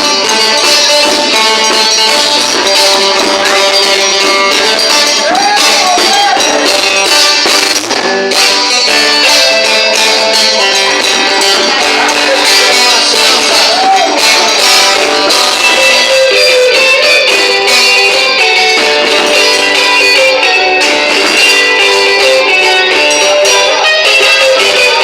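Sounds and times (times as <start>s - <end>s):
percussion beat: 0.0s - 25.0s
plucked guitar: 0.0s - 25.0s.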